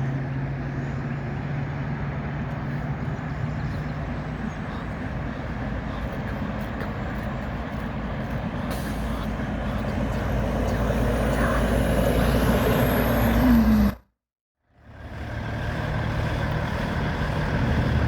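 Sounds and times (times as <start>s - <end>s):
diesel truck engine running: 0.0s - 14.0s, 14.6s - 18.0s.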